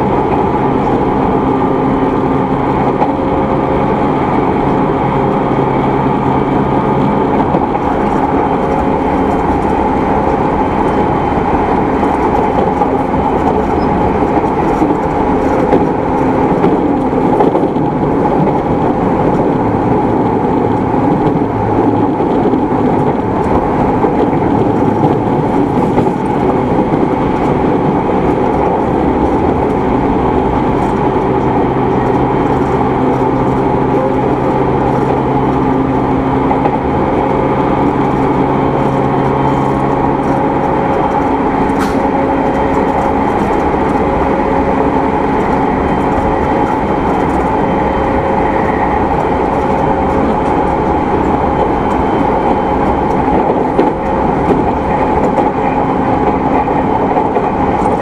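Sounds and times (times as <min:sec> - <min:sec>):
electric train traction hum: 0:00.0 - 0:58.0
wheel and rail noise: 0:00.0 - 0:58.0.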